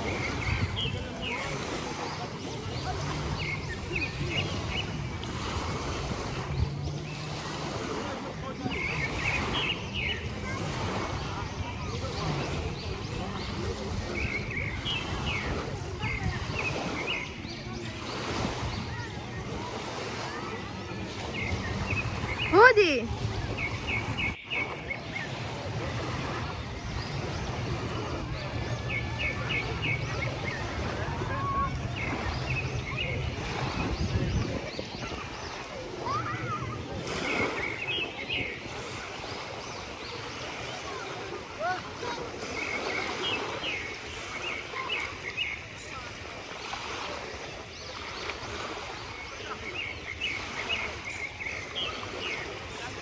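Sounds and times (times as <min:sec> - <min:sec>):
faint distant voices: 0:00.0 - 0:53.0
sea surf washing on shore: 0:00.0 - 0:53.0
wind buffeting microphone: 0:00.0 - 0:53.0.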